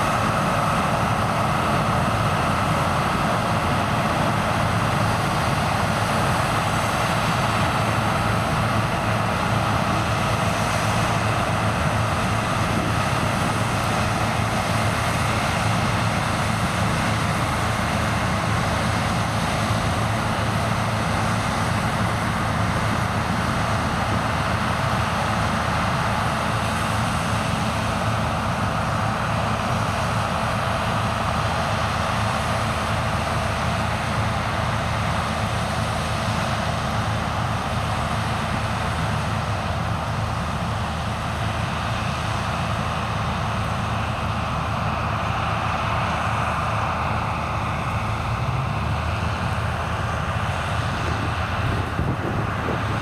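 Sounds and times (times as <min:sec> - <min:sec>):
farm machinery engine hum: 0:00.0 - 0:53.0.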